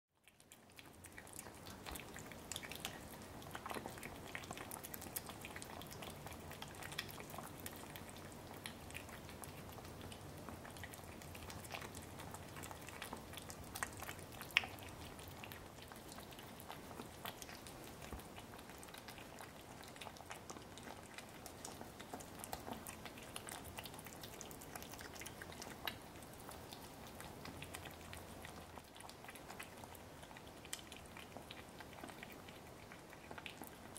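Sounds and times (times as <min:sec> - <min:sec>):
kittens chewing and licking: 0:00.1 - 0:33.9.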